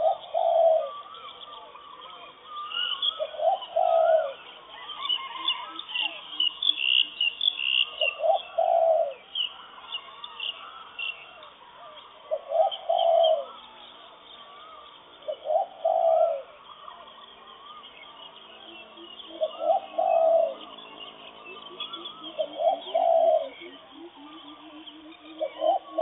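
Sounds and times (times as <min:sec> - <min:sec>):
low bird call: 0:00.0 - 0:26.0
small birds chirping and warbling: 0:00.0 - 0:26.0.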